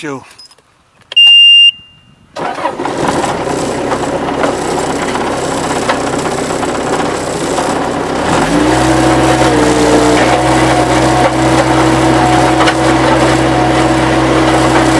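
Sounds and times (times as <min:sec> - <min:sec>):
loader diesel engine running: 0:02.4 - 0:14.9.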